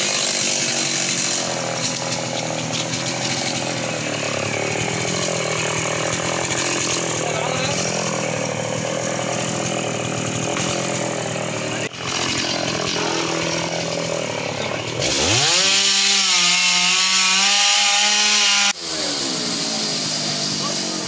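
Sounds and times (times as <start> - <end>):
chainsaw running and revving: 0.0 - 21.0.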